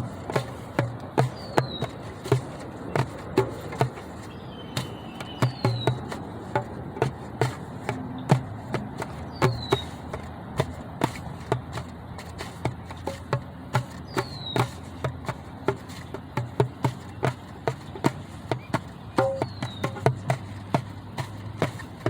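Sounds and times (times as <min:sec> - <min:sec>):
irregular drum hits: 0:00.0 - 0:22.0.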